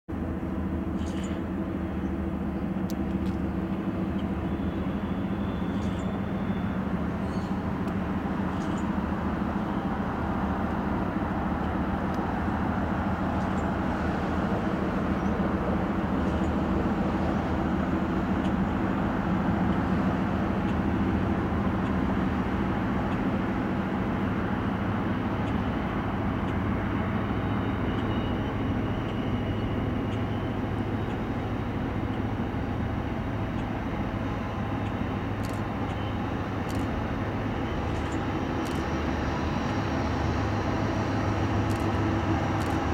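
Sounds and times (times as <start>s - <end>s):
distant diesel locomotive drone: 0.1s - 42.9s.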